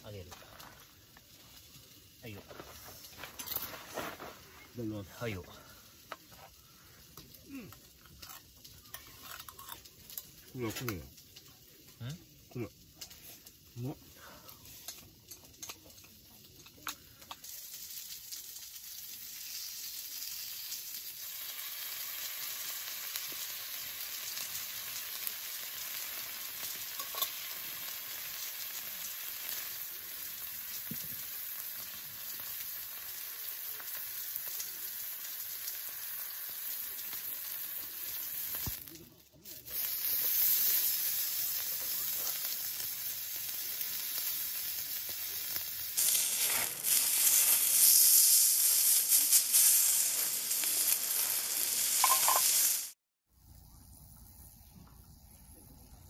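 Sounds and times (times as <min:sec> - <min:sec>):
meat sizzling on a griddle: 0:00.0 - 0:53.0.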